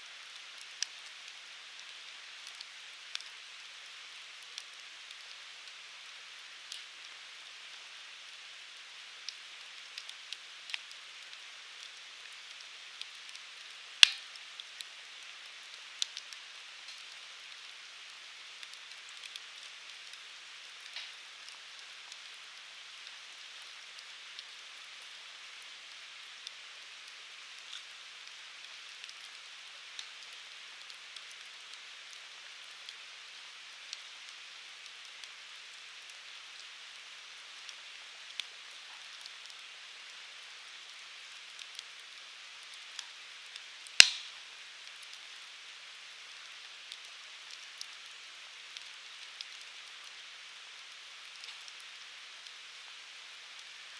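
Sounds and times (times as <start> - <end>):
firewood burning with crackles: 0.0 - 53.9.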